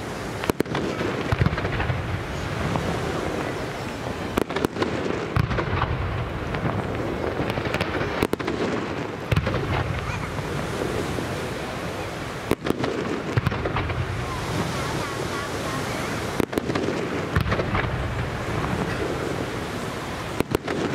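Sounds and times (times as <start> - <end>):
fireworks bangs: 0.0 - 20.9.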